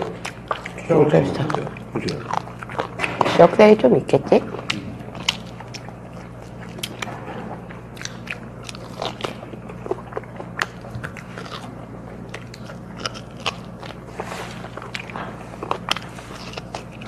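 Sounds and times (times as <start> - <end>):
close-up chewing and biting: 0.0 - 17.0
low steady hum: 0.0 - 17.0.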